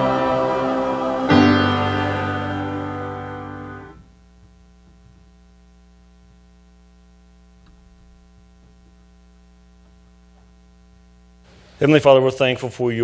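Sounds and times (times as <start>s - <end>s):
faint electrical mains hum: 0.0s - 13.0s.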